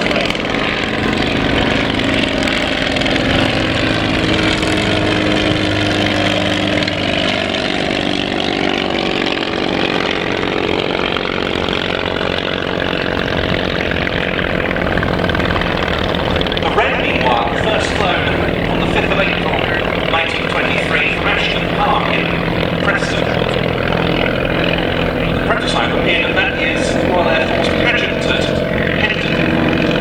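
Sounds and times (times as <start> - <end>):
light aircraft engine buzzing: 0.0 - 30.0.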